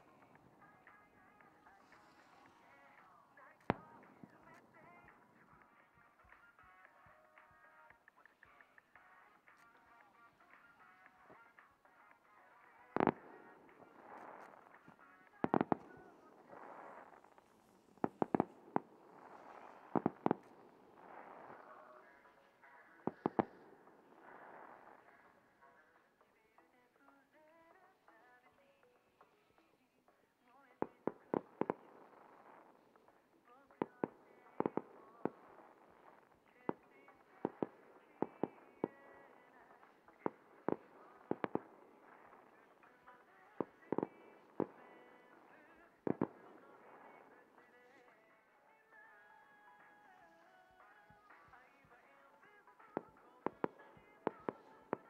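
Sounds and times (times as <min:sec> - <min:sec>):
fireworks bursting with sharp bangs: 0:00.0 - 0:55.0.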